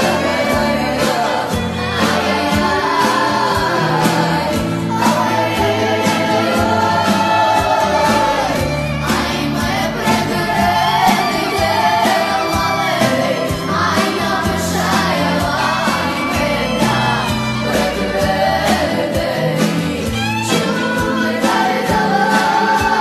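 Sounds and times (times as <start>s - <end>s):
band playing dance music: 0.0s - 23.0s
person singing: 0.0s - 23.0s
regular drum beat: 0.0s - 23.0s
sustained bass notes: 0.0s - 23.0s.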